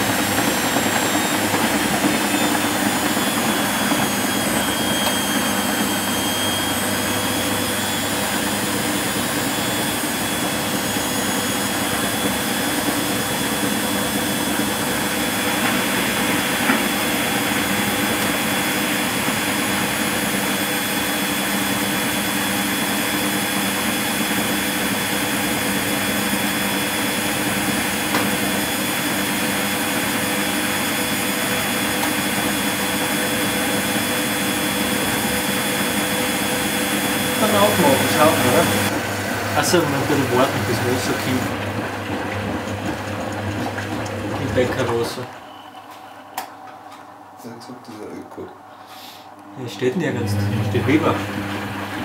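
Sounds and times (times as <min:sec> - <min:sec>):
washing machine running: 0:00.0 - 0:48.9, 0:49.6 - 0:52.0.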